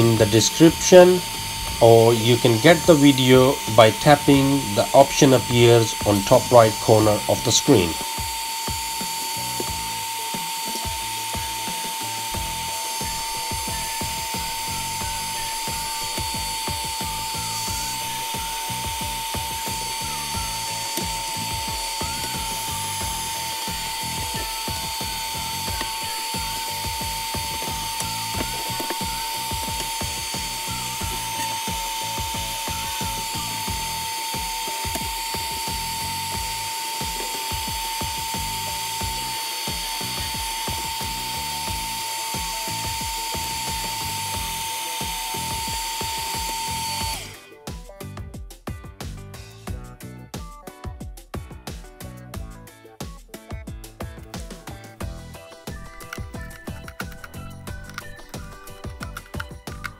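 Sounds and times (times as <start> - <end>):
constant whine: 0.0 - 47.4, 55.0 - 59.9
heat gun blowing air: 0.0 - 47.4, 55.0 - 59.9.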